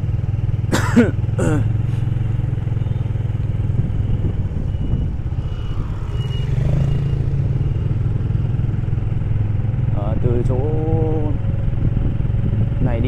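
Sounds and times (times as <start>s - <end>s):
motorbike engine running: 0.0s - 13.0s
road rumble: 0.0s - 13.0s.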